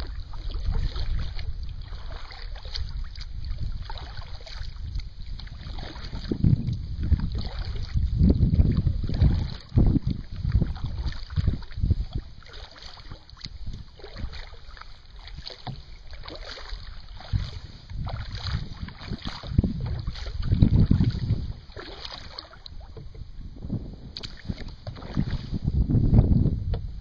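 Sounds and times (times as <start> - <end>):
water swishing with paddle strokes: 0.0 - 27.0
wind buffeting microphone: 0.0 - 27.0.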